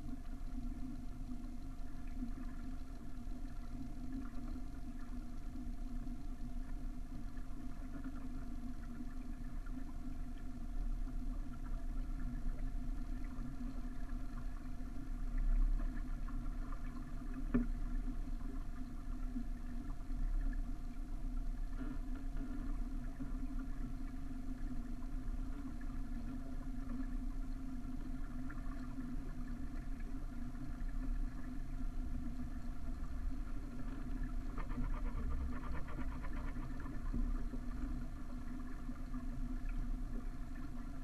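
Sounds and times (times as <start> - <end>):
constant low hum: 0.0 - 41.0
water moving along hull: 0.0 - 41.0.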